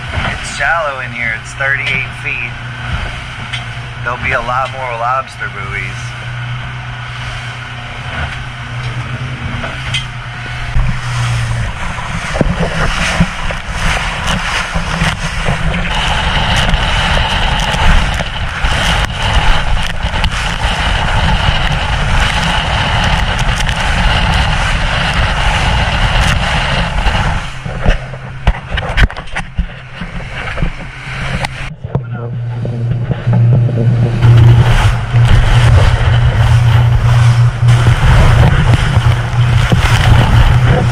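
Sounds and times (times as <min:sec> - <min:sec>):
outboard engine droning: 0:00.0 - 0:40.9
water and wind rushing along hull: 0:00.0 - 0:40.9.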